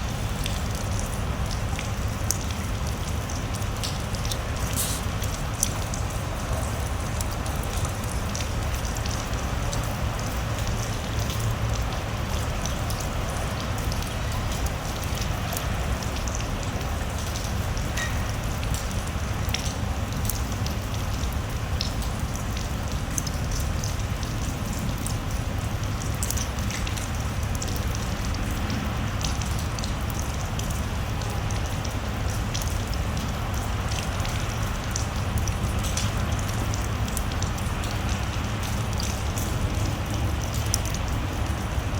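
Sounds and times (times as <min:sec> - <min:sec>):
raindrops ticking close by: 0:00.0 - 0:41.9
steady rain hiss: 0:00.0 - 0:41.9.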